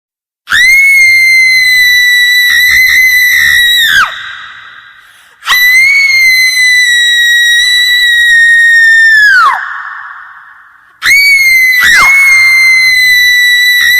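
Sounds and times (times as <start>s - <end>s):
shrill high-pitched scream: 0.5s - 13.9s.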